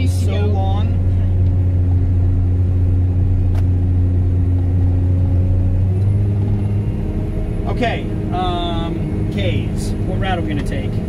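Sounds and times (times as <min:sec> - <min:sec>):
engine low drone: 0:00.0 - 0:11.0.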